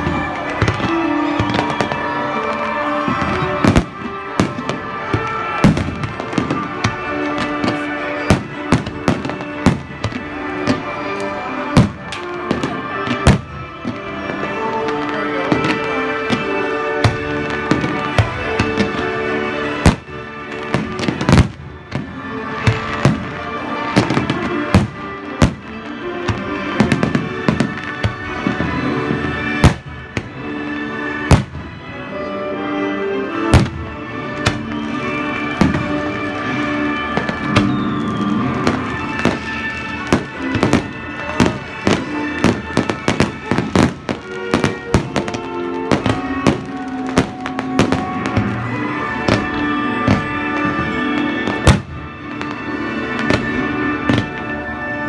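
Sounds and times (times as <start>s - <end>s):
fireworks bangs: 0.0s - 32.3s, 33.4s - 55.0s
music playing: 0.0s - 55.0s.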